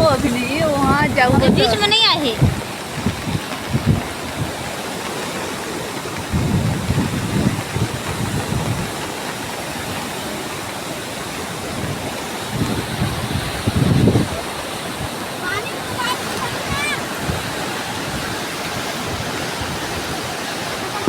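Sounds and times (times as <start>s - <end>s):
river rushing roar: 0.0s - 21.0s
wind buffeting microphone: 0.0s - 21.0s.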